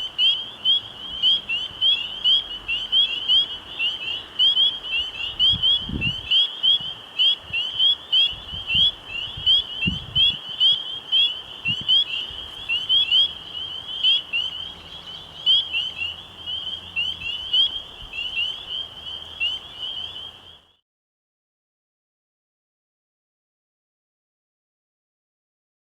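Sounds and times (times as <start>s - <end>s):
frogs peeping chorus: 0.0s - 20.8s.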